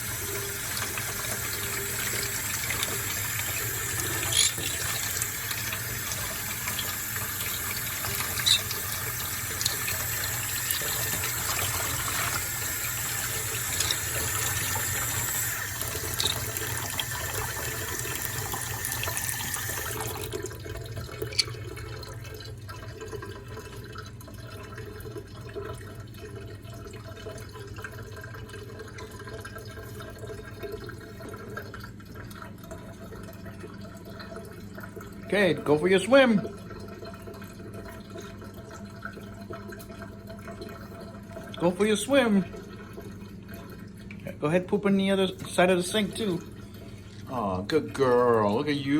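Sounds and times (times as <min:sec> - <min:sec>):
water tap running into sink: 0:00.0 - 0:48.9.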